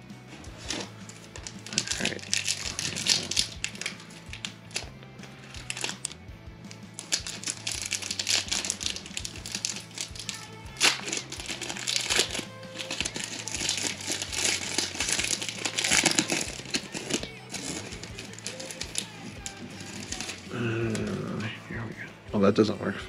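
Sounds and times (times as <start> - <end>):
wrapper crinkling: 0.4 - 6.2, 6.9 - 21.3.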